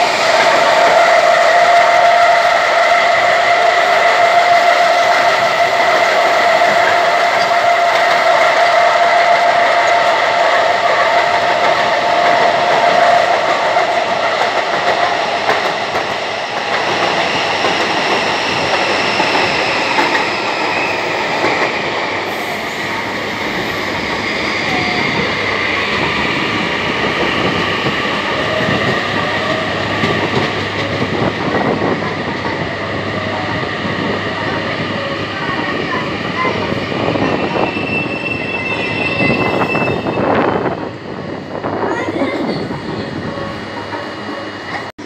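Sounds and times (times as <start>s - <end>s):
train wheels rumbling and rattling: 0.0s - 45.0s.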